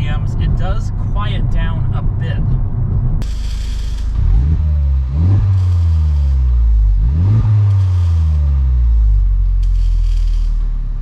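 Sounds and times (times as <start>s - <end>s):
car engine revving in cabin: 0.0s - 11.0s.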